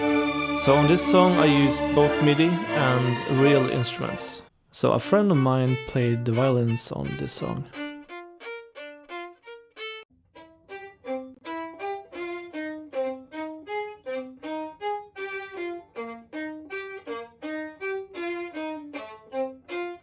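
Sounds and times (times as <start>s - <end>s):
violin playing detached arpeggios: 0.0s - 20.0s.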